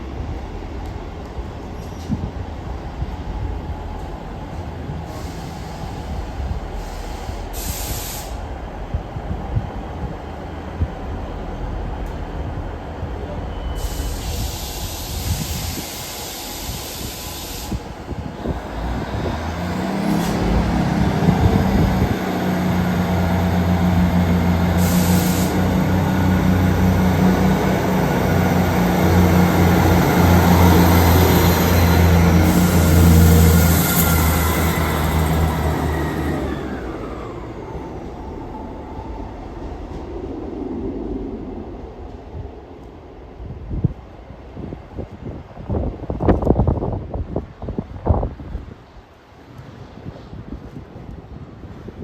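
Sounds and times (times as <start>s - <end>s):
passenger train running past: 0.0s - 52.0s.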